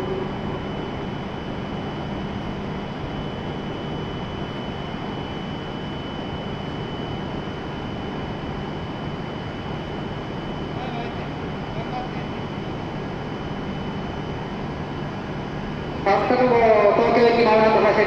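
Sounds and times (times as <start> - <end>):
train equipment hum and whine: 0.0 - 18.0.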